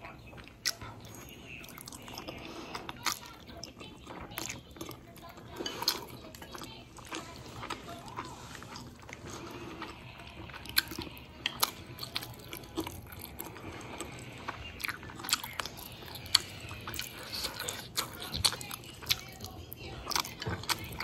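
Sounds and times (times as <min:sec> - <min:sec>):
chewing soft noodles: 0:00.0 - 0:21.0.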